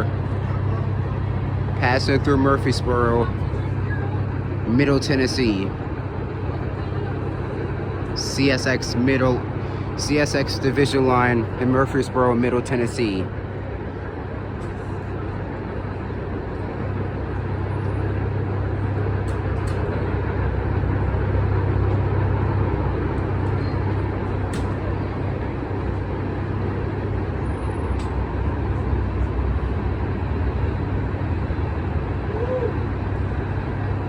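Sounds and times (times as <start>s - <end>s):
freight train rumbling: 0.0s - 34.0s.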